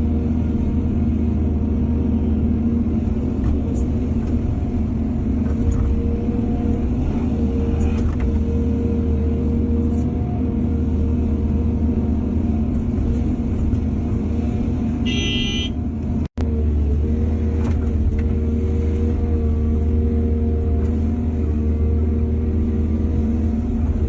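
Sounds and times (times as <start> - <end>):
heavy machinery diesel engine: 0.0 - 24.0.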